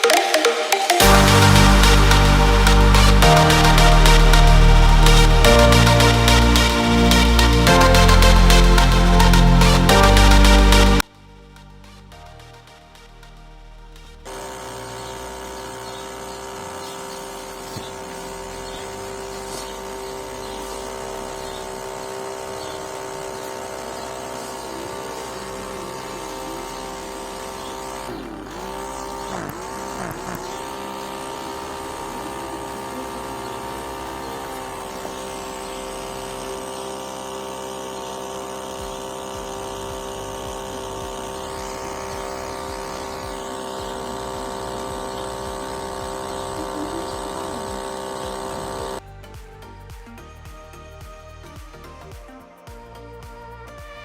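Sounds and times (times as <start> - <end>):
small electric motor humming: 0.0 - 11.1, 14.1 - 54.0.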